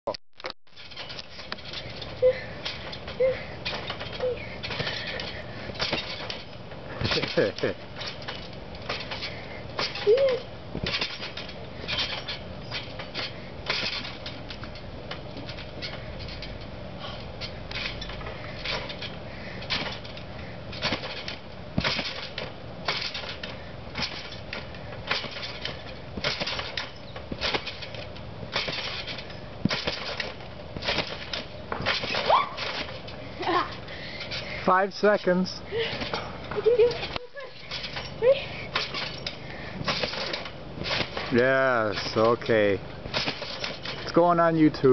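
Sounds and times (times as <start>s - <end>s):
trampoline springs bouncing: 0.4s - 44.9s.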